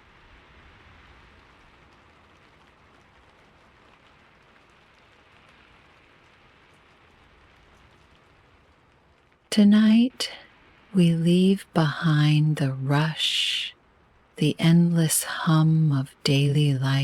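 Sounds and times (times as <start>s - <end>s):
faint rainfall: 0.0s - 17.0s.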